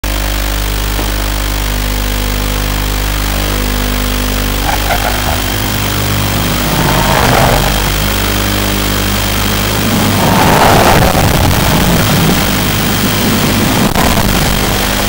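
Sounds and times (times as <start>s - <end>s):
electrical hum: 0.4s - 15.0s
constant buzz of fixed tones: 0.6s - 15.0s.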